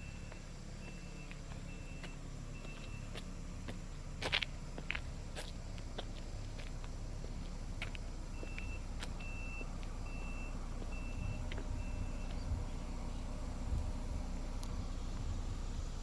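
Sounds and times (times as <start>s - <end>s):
steady low rumble: 0.0s - 16.0s
vehicle reversing alarm beeping: 0.0s - 16.0s.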